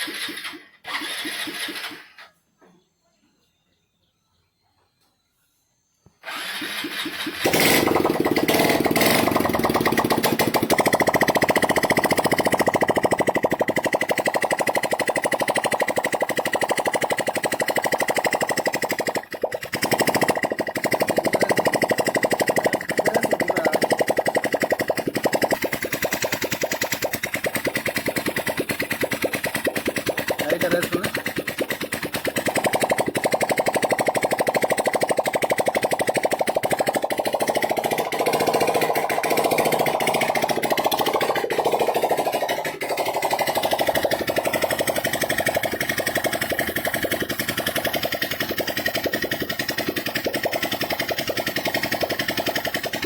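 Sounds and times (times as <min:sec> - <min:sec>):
motorcycle engine starting and idling: 0:00.0 - 0:02.8, 0:06.2 - 0:53.0.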